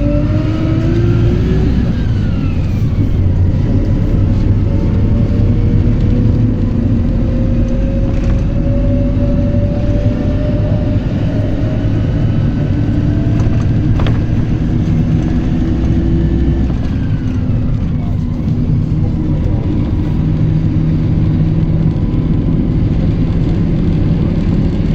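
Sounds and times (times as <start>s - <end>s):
bus engine and road rumble: 0.0s - 24.9s.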